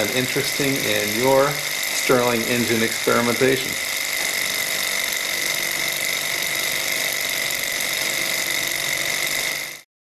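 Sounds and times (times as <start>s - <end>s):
constant high whine: 0.0s - 9.9s
small engine mechanical running: 0.0s - 9.9s.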